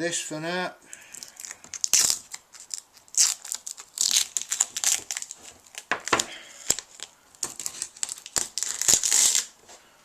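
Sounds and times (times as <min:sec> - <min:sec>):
masking tape crinkling and tearing: 0:00.9 - 0:09.6.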